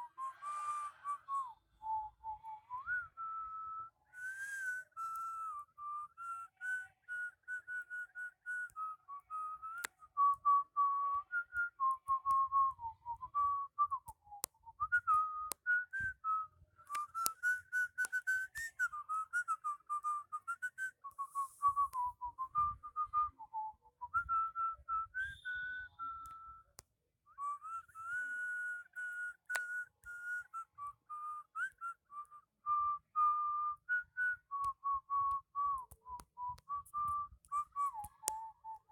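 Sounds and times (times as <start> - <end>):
person whistling a tune: 0.0 - 38.9
faint clicks: 4.4 - 23.3, 24.0 - 38.9.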